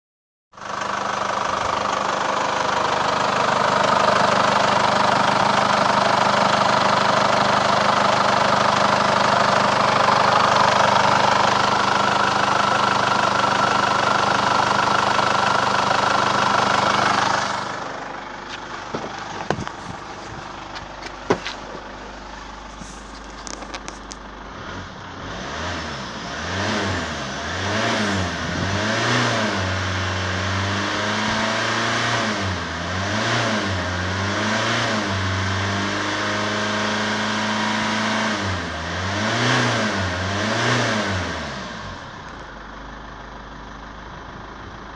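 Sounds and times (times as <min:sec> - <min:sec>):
diesel engine running: 0:00.6 - 0:44.9
engine revving: 0:00.8 - 0:23.6, 0:24.5 - 0:42.3.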